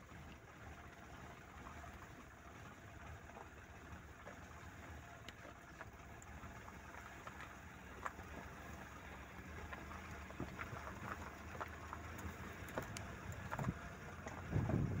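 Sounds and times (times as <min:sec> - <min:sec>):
faint car engine at low revs: 0:00.0 - 0:15.0.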